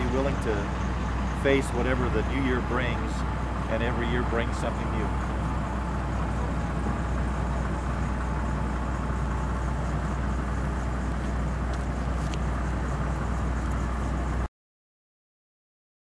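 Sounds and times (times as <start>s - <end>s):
low constant hum: 0.0s - 14.5s
road traffic rumble: 0.0s - 14.5s.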